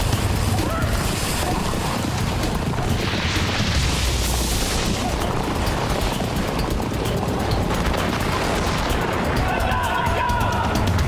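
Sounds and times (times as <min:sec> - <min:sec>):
horses dragging man through mud: 0:00.0 - 0:10.2.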